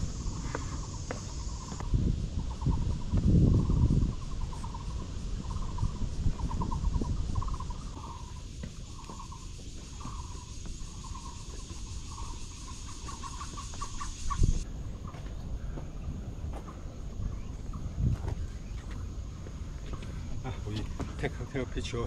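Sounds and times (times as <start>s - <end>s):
insects buzzing: 0.0s - 22.0s
low wind rumble: 0.0s - 22.0s.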